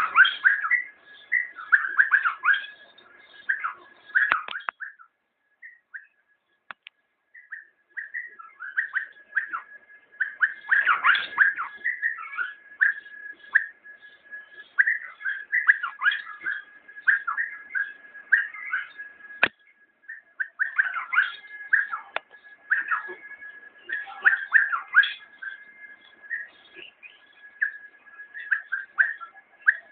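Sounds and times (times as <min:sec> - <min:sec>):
bulbul singing: 0:00.0 - 0:29.9
thin steady high tone: 0:00.0 - 0:29.9.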